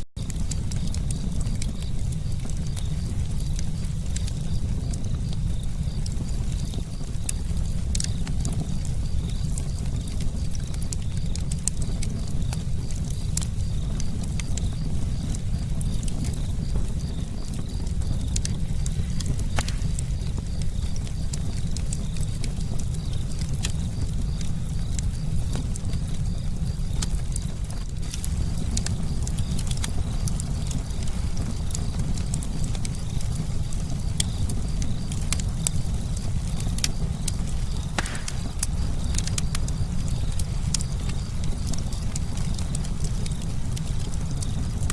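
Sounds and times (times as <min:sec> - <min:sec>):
low rumble of flames: 0:00.0 - 0:44.9
wood crackling and popping: 0:00.0 - 0:44.9.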